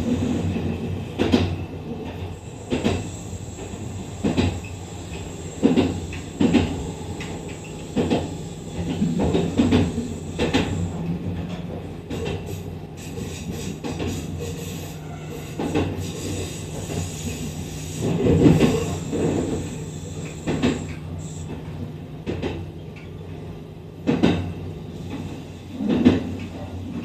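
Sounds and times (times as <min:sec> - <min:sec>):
train interior hum: 0:00.0 - 0:27.0.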